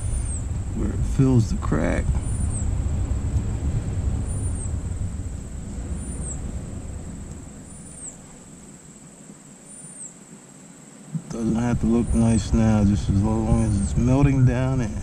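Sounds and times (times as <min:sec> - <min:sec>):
distant engine rumble: 0:00.0 - 0:10.4, 0:11.0 - 0:15.0.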